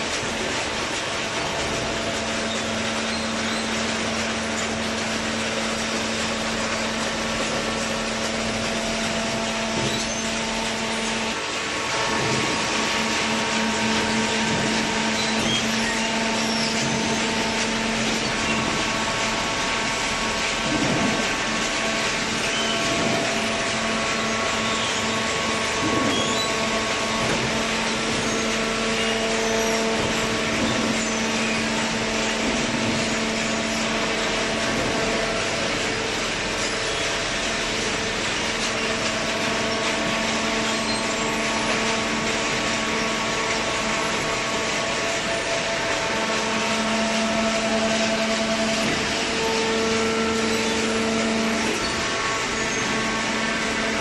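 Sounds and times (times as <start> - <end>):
hydraulic baling press humming: 0.0 - 54.0.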